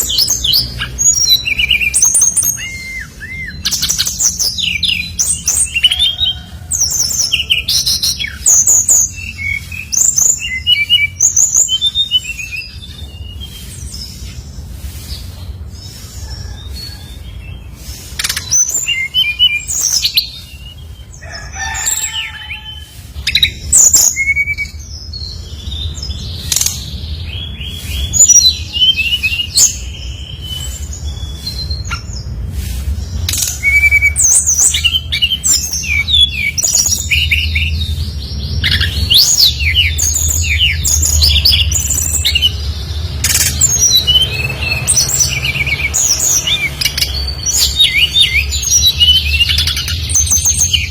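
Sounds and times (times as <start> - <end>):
bird singing chirps and whistles: 0.0 - 14.4, 15.9 - 21.1, 23.2 - 32.3, 33.0 - 50.9.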